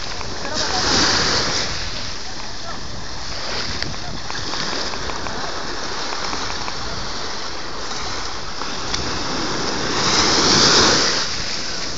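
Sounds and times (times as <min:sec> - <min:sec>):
small sea waves breaking: 0:00.0 - 0:11.9.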